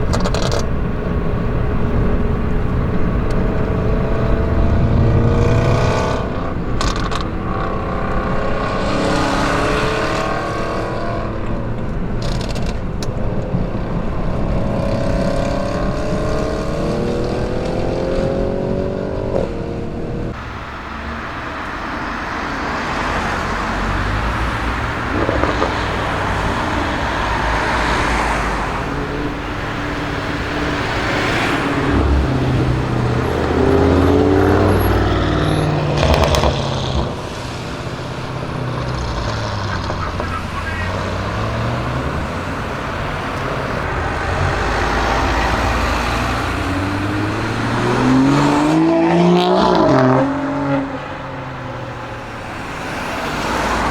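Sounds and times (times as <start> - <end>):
exhaust crack: 0.0 - 19.6, 20.3 - 53.9
car engine revving: 0.0 - 53.9.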